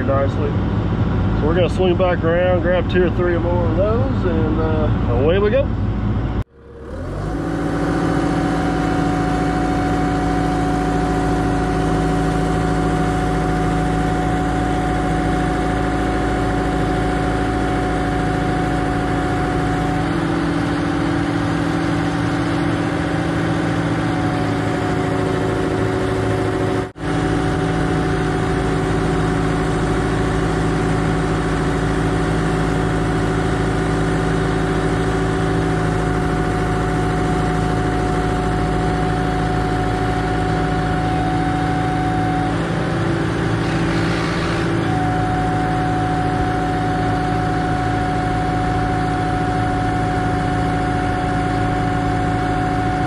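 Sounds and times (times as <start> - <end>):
diesel engine humming: 0.0 - 53.0.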